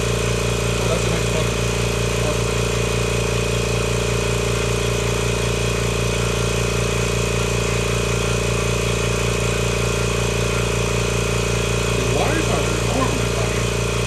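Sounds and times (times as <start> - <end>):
electric air compressor running: 0.0 - 14.0.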